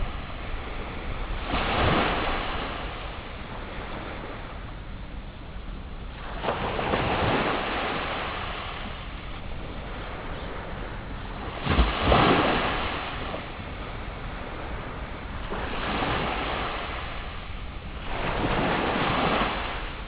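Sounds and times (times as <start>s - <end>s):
wave breaking: 0.0s - 4.7s, 6.2s - 20.0s
sea waves washing in: 0.0s - 20.0s.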